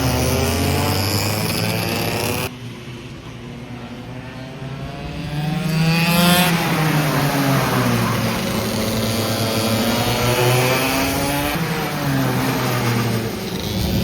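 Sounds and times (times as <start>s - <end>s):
go-kart engines running: 0.0s - 14.0s.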